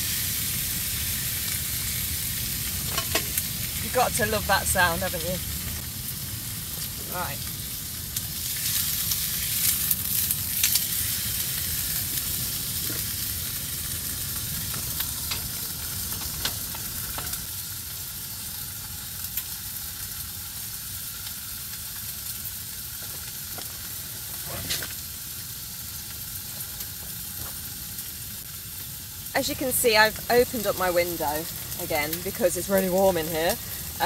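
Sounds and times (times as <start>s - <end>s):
steak sizzling in a pan: 0.0s - 34.0s.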